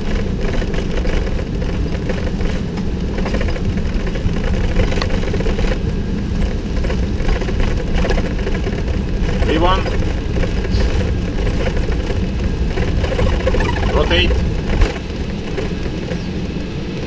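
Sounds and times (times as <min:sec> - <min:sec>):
jet engines at takeoff thrust: 0:00.0 - 0:17.0
landing gear rumbling over runway: 0:00.0 - 0:17.0.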